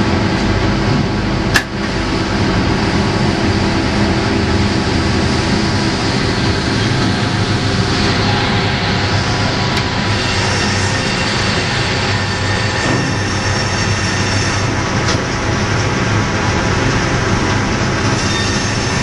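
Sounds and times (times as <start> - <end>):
sawmill machinery hum: 0.0 - 19.0.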